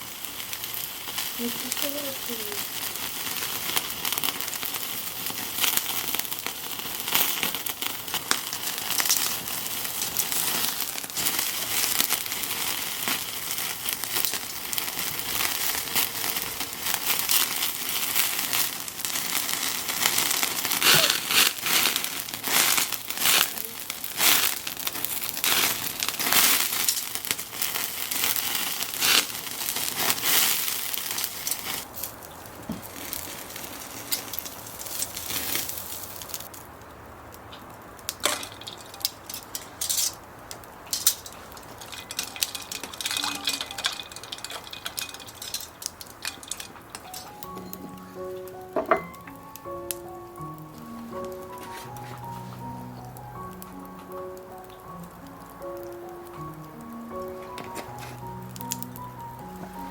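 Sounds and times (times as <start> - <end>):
charcoal grill and fire crackling: 0.0 - 59.9.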